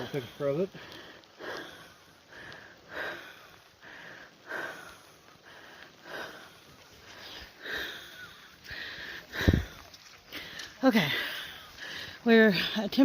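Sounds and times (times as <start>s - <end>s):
person breathing heavily: 0.0s - 12.8s.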